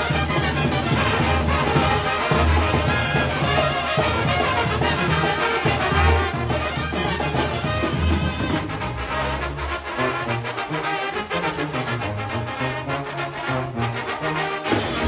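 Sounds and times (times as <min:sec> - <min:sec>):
brass band with trumpets and trombones: 0:00.0 - 0:15.0.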